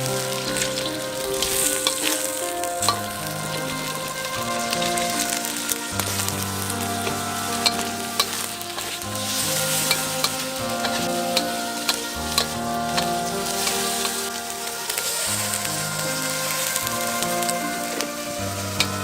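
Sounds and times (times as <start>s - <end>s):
food sizzling in a pan: 0.0s - 19.0s
soft background music: 0.0s - 19.0s.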